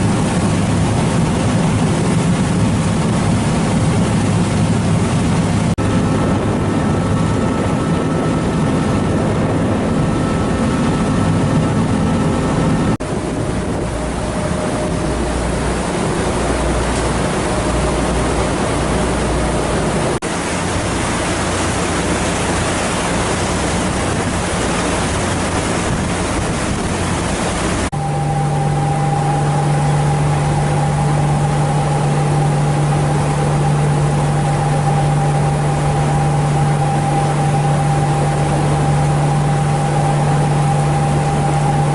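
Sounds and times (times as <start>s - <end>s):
ferry engines humming: 0.0s - 41.9s
rushing water: 0.0s - 41.9s
wind on microphone: 0.0s - 41.9s.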